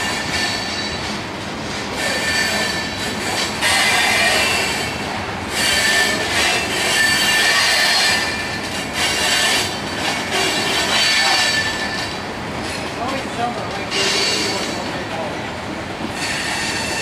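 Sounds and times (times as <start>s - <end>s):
freight train rumble: 0.0s - 17.0s
train wheels squealing on rails: 0.0s - 17.0s.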